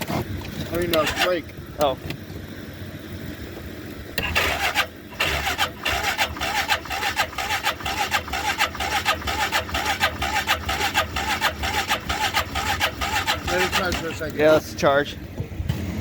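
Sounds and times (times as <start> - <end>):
engine cranking without firing: 0.0 - 2.3, 3.8 - 16.0.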